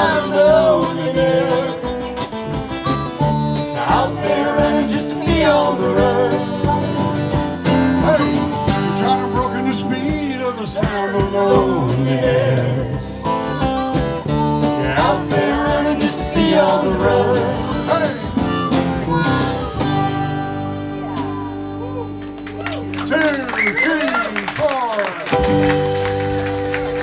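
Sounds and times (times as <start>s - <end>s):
strummed acoustic guitar: 0.0s - 23.2s
electric guitar: 0.0s - 24.1s, 25.3s - 27.0s
harmonica with bending notes: 0.0s - 24.4s
bass: 0.0s - 27.0s.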